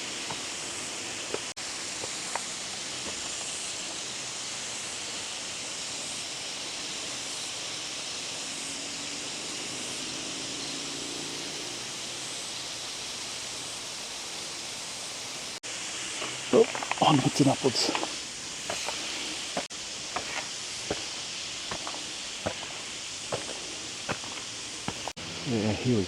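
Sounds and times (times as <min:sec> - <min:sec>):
steady rushing noise outdoors: 0:00.0 - 0:26.0.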